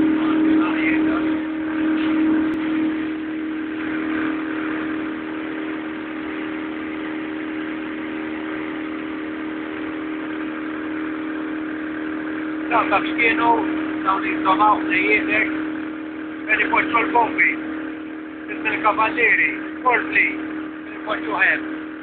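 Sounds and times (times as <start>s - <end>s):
motorboat engine droning: 0.0s - 22.0s.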